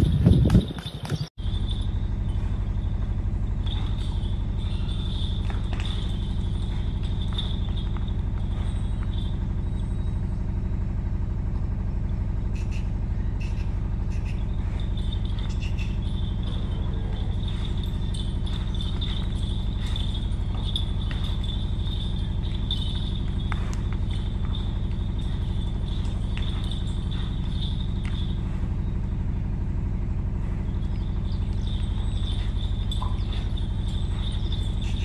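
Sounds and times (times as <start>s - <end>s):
low pulsing engine drone: 0.0s - 35.0s.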